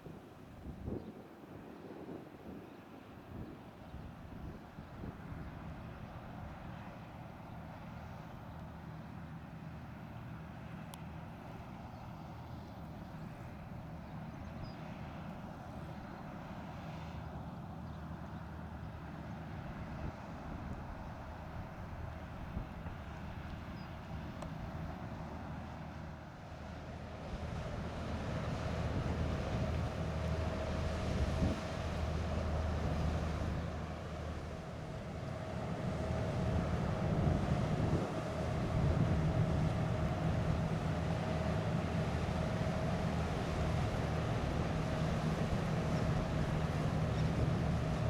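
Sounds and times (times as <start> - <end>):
faint steady whine: 4.4 - 48.0
boat engine droning: 4.8 - 48.0.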